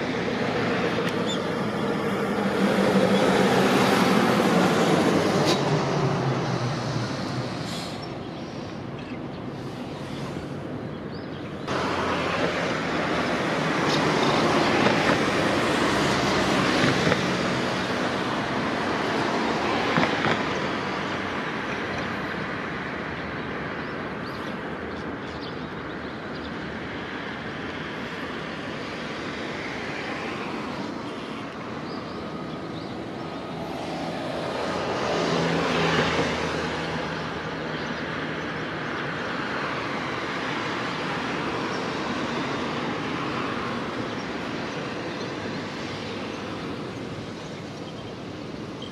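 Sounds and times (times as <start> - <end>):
cars passing on a road: 0.0 - 48.9.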